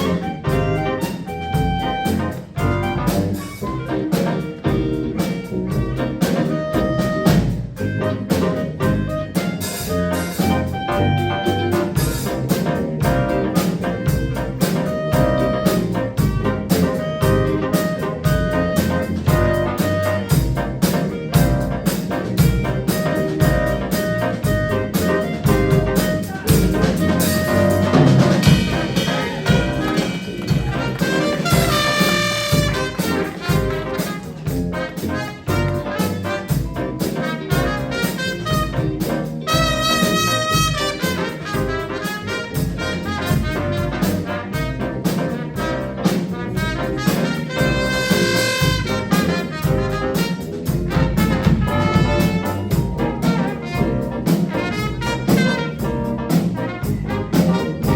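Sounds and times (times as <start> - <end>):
jazz band playing swing: 0.0 - 57.9
loud held horn notes: 0.0 - 57.9.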